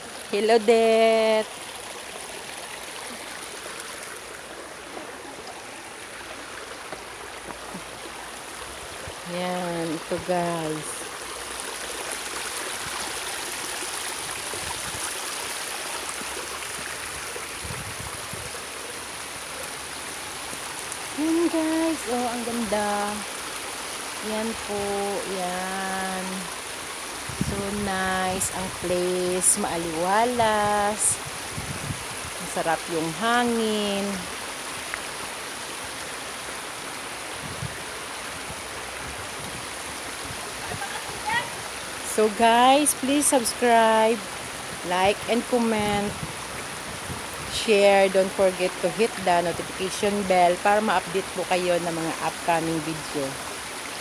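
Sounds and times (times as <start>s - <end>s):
creek water flowing over rocks: 0.0s - 54.0s.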